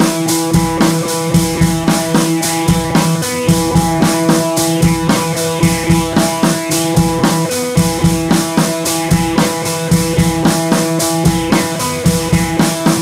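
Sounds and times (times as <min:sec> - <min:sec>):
background music with drum beat: 0:00.0 - 0:13.0.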